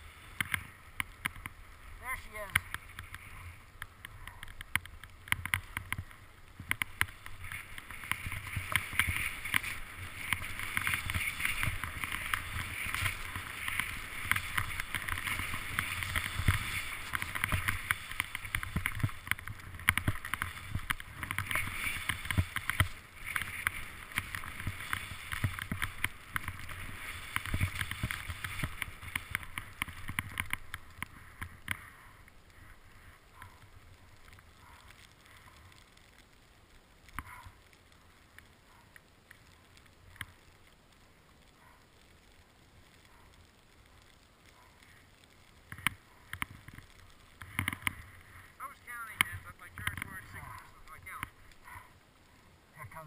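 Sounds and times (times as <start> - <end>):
skis hissing over snow: 0.0 - 4.7, 5.6 - 36.2, 41.5 - 53.0.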